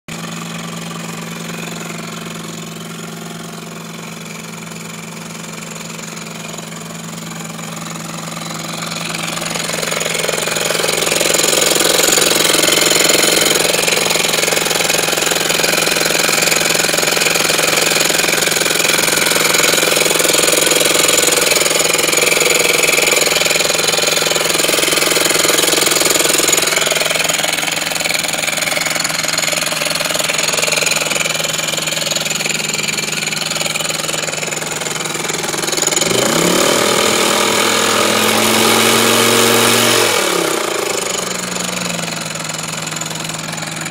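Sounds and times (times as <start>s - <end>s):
car engine running with mechanical noise: 0.1s - 43.9s.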